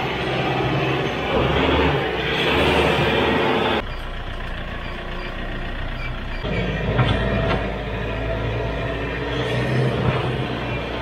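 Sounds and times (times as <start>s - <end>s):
loader scraping dirt: 0.0s - 11.0s
tractor diesel engine running: 0.0s - 11.0s.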